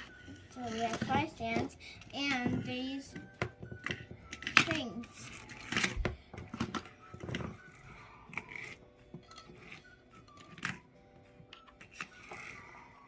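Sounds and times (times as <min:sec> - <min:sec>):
plastic toys clicking and tapping: 0:00.0 - 0:12.8
faint background music: 0:00.0 - 0:13.0.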